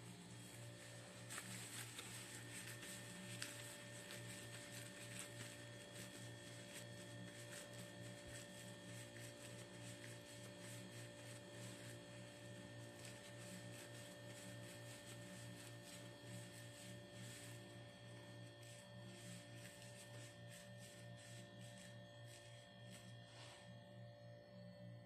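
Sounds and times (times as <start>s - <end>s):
faint electrical hum: 0.0s - 25.0s.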